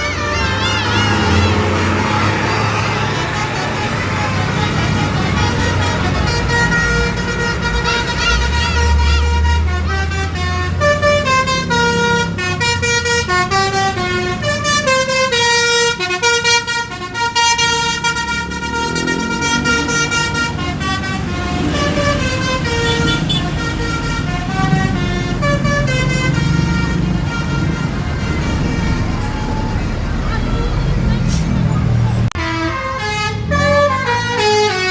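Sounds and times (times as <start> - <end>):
low engine rumble: 0.0 - 34.9.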